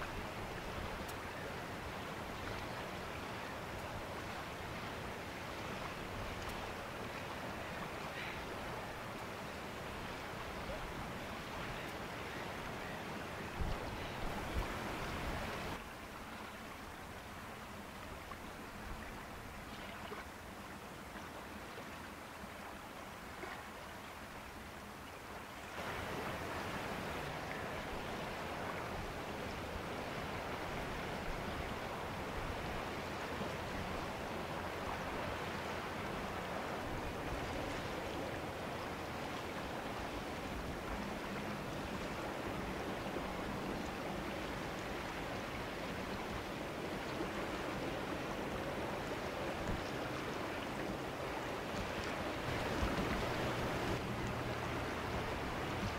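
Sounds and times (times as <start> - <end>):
river water rushing: 0.0 - 55.9
wind: 0.0 - 55.9.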